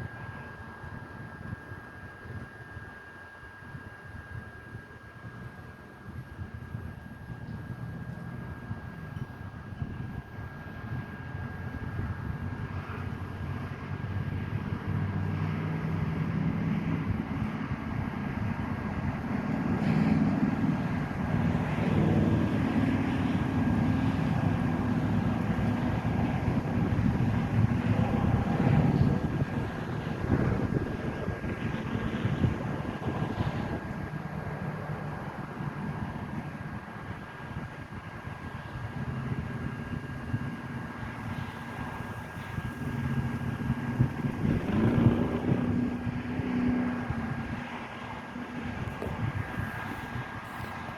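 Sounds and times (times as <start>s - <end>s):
faint high whine: 0.0s - 44.7s
engine droning: 0.0s - 50.9s.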